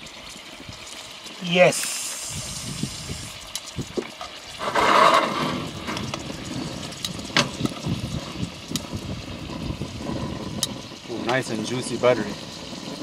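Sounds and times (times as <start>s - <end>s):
meat sizzling in butter: 0.0s - 13.0s.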